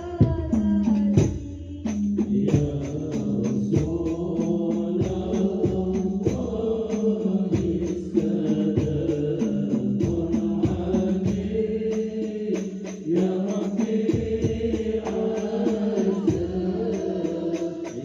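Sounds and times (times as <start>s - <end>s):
hand drum beat: 0.0s - 18.0s
man singing a chant: 1.8s - 18.0s.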